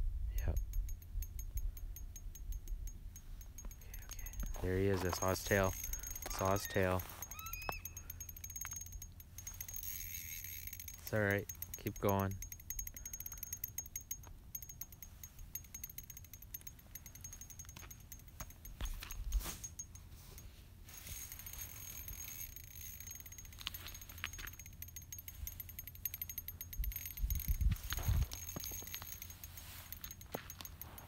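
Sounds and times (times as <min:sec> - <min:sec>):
fishing reel clicking: 0:00.5 - 0:19.8, 0:20.9 - 0:31.0.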